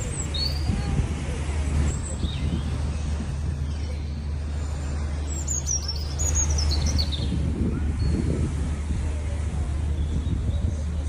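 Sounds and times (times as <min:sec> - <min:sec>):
low engine or traffic rumble: 0:00.0 - 0:11.0.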